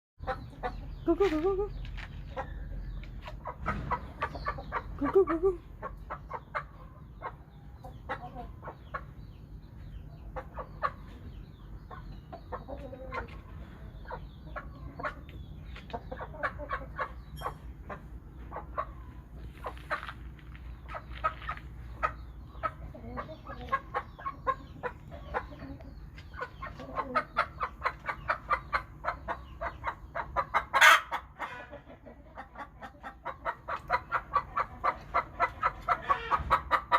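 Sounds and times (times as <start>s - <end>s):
chickens clucking: 0.2s - 36.9s.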